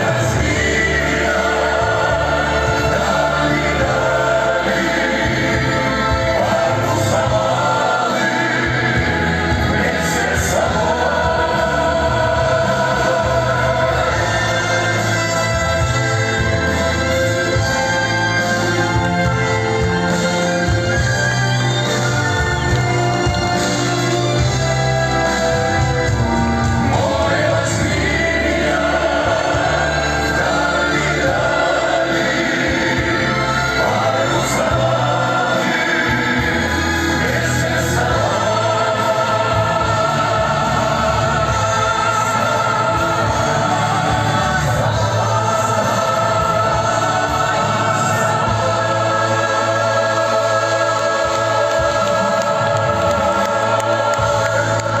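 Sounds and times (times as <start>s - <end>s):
male vocal group singing chords: 0.0s - 55.0s.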